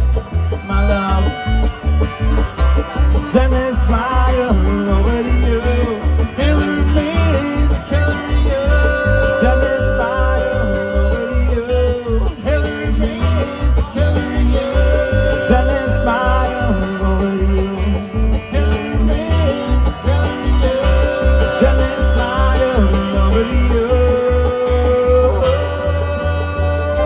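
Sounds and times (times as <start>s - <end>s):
guitar: 0.0s - 27.0s
picked banjo: 0.0s - 27.0s.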